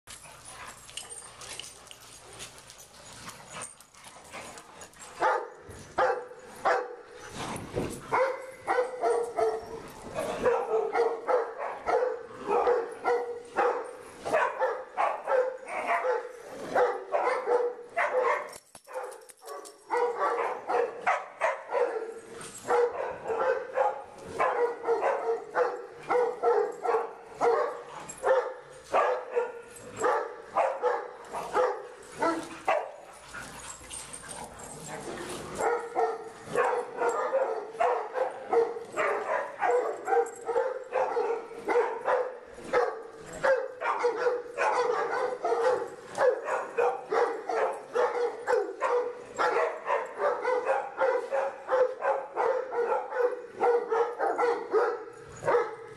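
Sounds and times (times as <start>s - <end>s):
dog barking: 5.2s - 7.1s, 8.1s - 33.0s, 35.6s - 55.9s.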